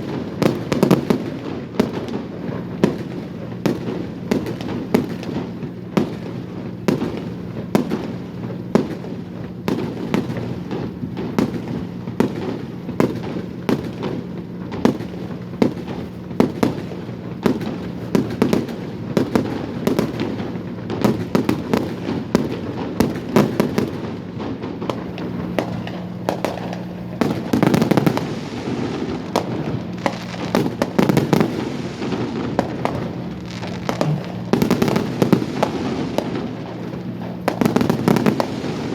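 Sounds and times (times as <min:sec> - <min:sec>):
fireworks bangs and crackles: 0:00.0 - 0:38.9
steady low hum: 0:00.0 - 0:38.9.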